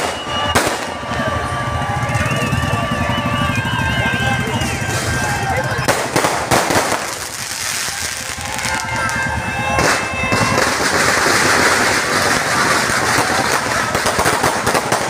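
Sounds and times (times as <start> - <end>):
crowd cheering and shouting: 0.0 - 15.0
firecrackers crackling: 0.0 - 15.0.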